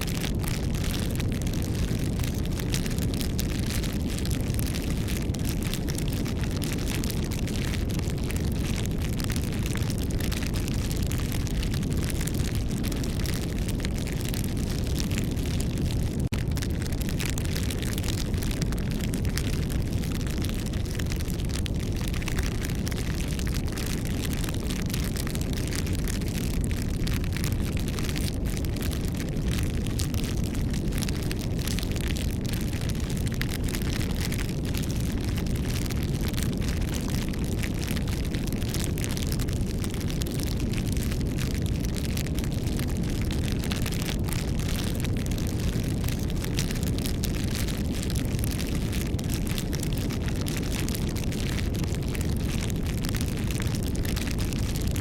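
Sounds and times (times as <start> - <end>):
campfire flame rushing: 0.0 - 55.0
wood crackling and popping: 0.0 - 55.0.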